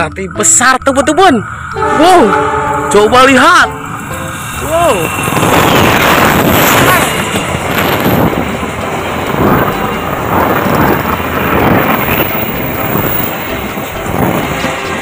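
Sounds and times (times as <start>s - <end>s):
train wheels roaring on rails: 0.0s - 15.0s.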